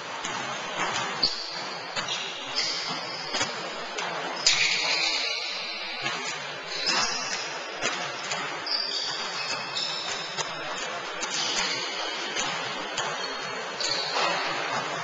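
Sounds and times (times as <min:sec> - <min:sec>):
basketballs bouncing on floor: 0:00.0 - 0:15.0
shoes squeaking on wooden court: 0:00.2 - 0:15.0.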